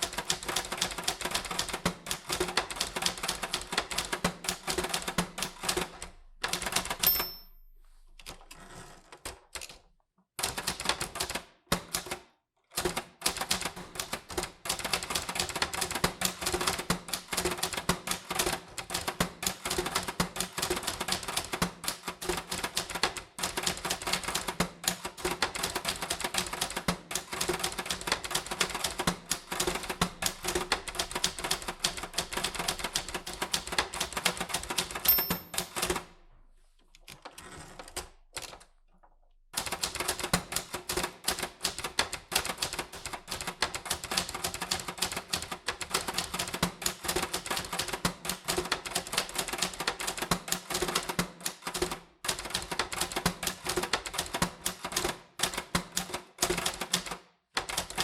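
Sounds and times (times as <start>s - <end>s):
typewriter typing: 0.0s - 7.4s, 10.4s - 12.2s, 12.8s - 36.0s, 37.1s - 38.7s, 39.6s - 58.0s.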